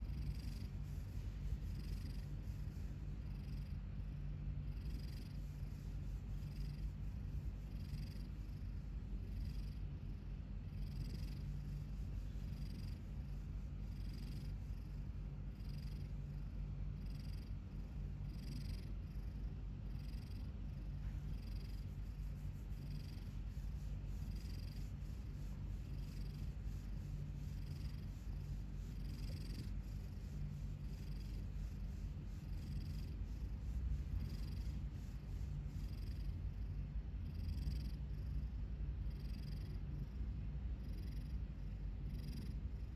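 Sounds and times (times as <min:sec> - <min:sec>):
cat snoring: 0:00.0 - 0:00.9, 0:01.7 - 0:02.4, 0:03.2 - 0:03.9, 0:04.6 - 0:05.7, 0:07.6 - 0:11.5, 0:12.4 - 0:13.0, 0:13.9 - 0:22.1, 0:22.7 - 0:30.2, 0:30.8 - 0:31.8, 0:32.4 - 0:34.9, 0:35.6 - 0:42.9
steady low rumble: 0:00.0 - 0:42.9.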